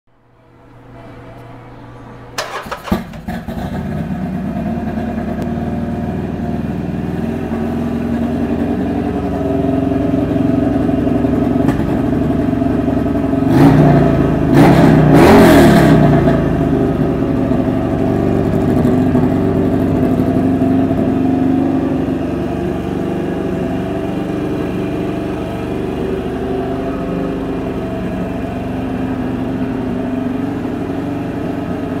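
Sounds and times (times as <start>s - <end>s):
motorcycle engine starting and revving: 2.4s - 32.0s.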